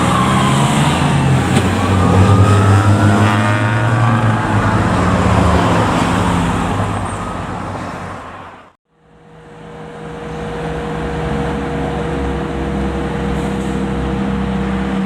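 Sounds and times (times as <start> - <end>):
fire truck engine drone: 0.0 - 15.0
road noise: 0.0 - 15.0.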